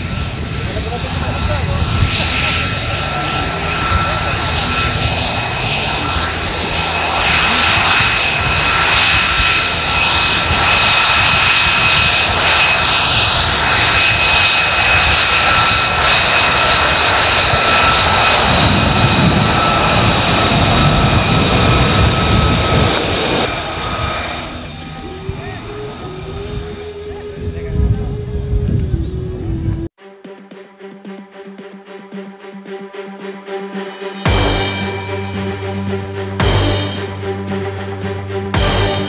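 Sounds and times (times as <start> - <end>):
jet engine whine over rumble: 0.0 - 30.0, 34.0 - 39.0.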